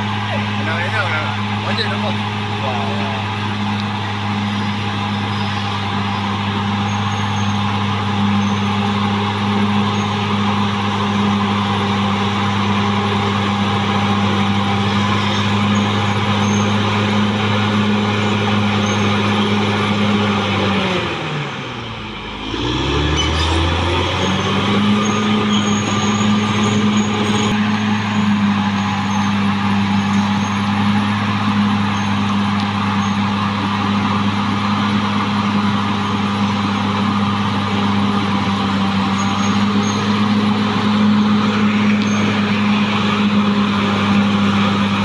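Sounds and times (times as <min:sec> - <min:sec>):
bulldozer diesel engine running: 0:00.0 - 0:45.0.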